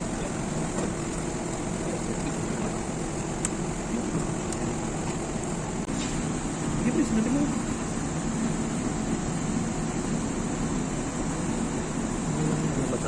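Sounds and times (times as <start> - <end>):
fan hum and hiss: 0.0 - 13.0.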